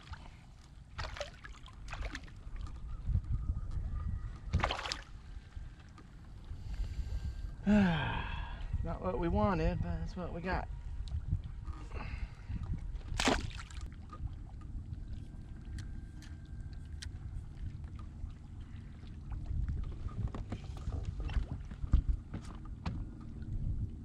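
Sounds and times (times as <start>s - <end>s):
water rumble: 0.0s - 24.0s
wind: 0.0s - 24.0s.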